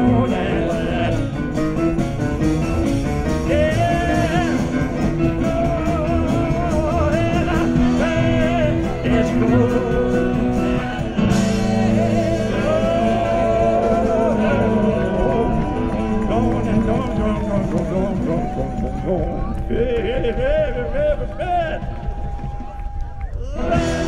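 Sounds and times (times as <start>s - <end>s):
rock band playing: 0.0s - 19.5s, 23.4s - 24.0s.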